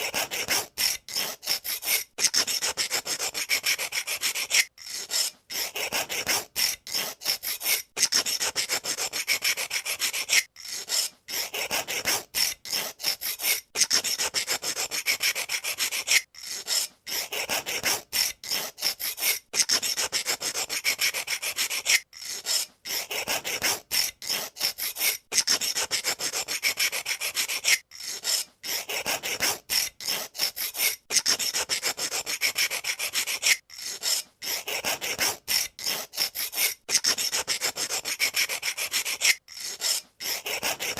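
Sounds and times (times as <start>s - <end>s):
pencil sharpener rasping: 0.0s - 40.9s.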